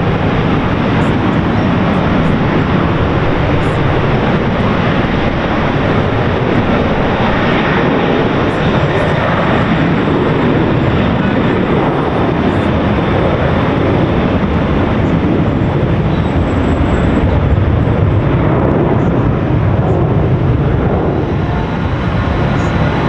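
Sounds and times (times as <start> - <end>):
jet airliner engines: 0.0 - 23.0.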